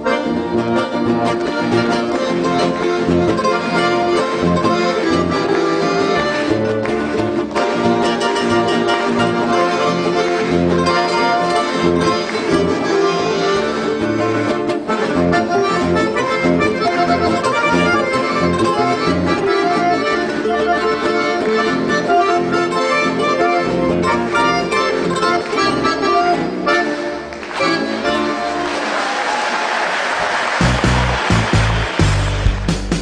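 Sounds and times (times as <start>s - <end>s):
strummed acoustic guitars: 0.0s - 28.5s
accordion melody: 0.0s - 29.0s, 30.2s - 33.0s.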